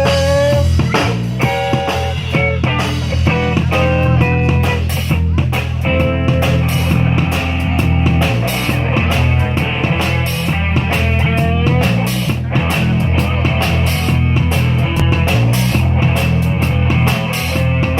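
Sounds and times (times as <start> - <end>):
drum kit beat: 0.0 - 17.9
guitar: 0.0 - 17.9.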